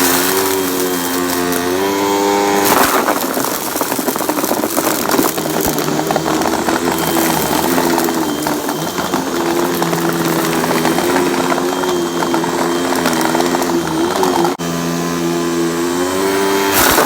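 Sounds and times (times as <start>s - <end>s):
rough rattling noise: 0.0s - 14.6s
vacuum cleaner motor whine: 0.0s - 17.0s.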